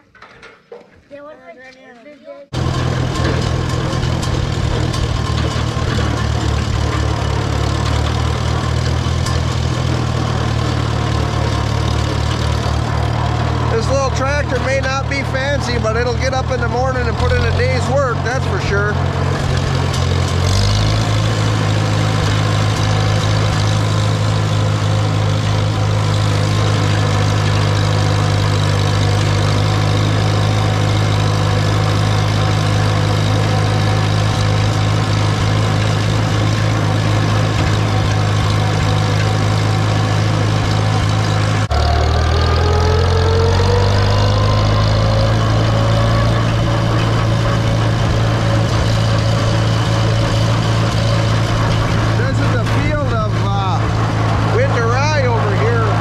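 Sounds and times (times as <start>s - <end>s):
heavy farm engine running: 2.5s - 56.0s.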